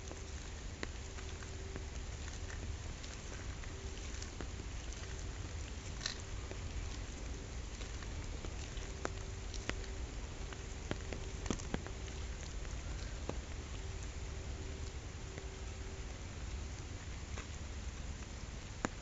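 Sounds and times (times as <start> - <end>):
rain falling on pond: 0.0 - 19.0.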